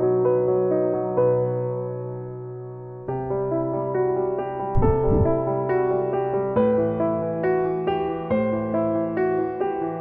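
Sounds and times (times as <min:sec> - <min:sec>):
gentle keyboard music: 0:00.0 - 0:10.0.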